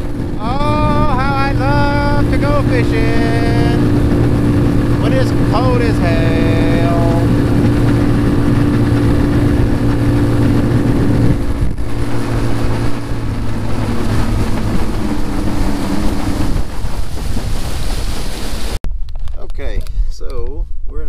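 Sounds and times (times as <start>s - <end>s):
boat motor running: 0.0s - 18.8s
water rushing along hull: 0.0s - 18.8s
wind buffeting microphone: 0.0s - 21.0s.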